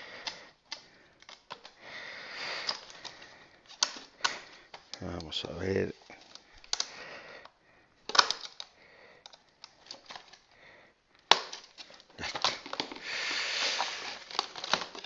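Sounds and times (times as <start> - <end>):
packaging rustling: 0.0 - 10.6, 11.2 - 15.0.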